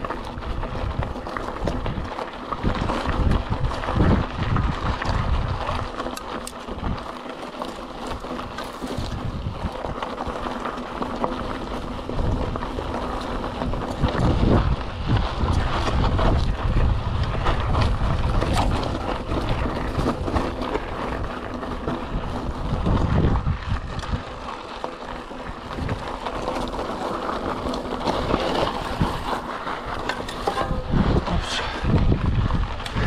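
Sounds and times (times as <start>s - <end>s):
wind buffeting microphone: 0.0s - 6.0s, 8.0s - 33.0s
bike clattering and rattling: 0.0s - 33.0s
bike tyres crunching over stones: 0.0s - 33.0s.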